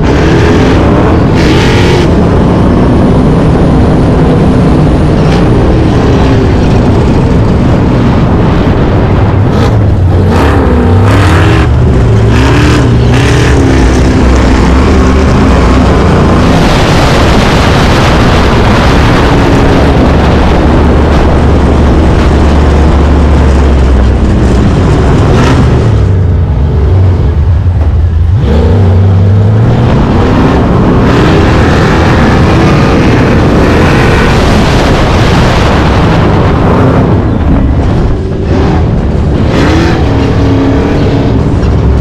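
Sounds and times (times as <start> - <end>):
engine revving hard in sand: 0.0 - 27.4, 28.2 - 42.0.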